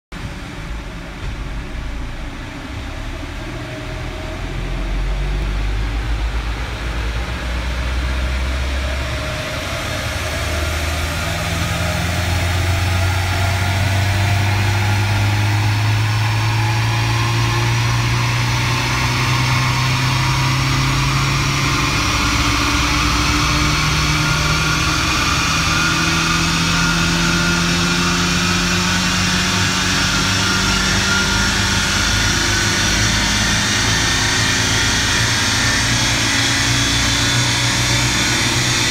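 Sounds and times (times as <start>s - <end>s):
car engine under load: 0.1s - 38.9s
turbo whine rising in pitch: 0.2s - 38.9s.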